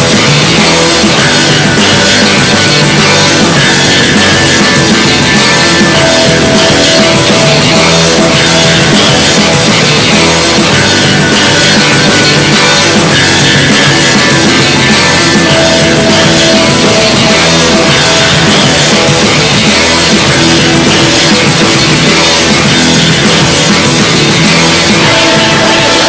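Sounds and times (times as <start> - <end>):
instrumental rock music: 0.0 - 26.0.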